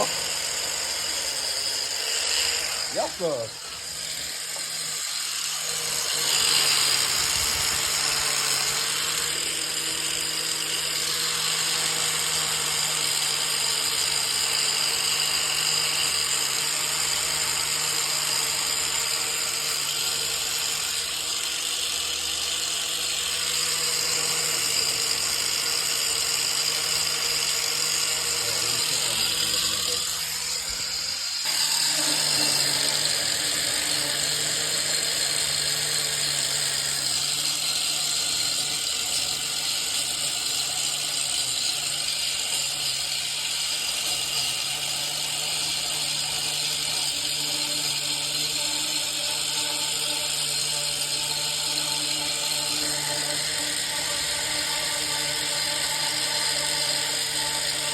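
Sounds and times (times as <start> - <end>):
power tool running with hiss: 0.0 - 57.9.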